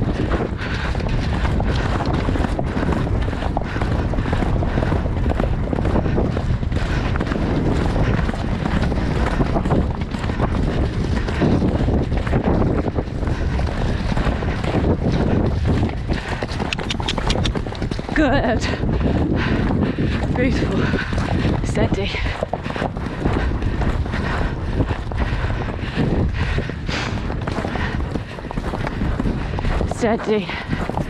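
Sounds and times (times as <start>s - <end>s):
hooves galloping on turf: 0.0s - 31.0s
wind buffeting microphone: 0.0s - 31.0s.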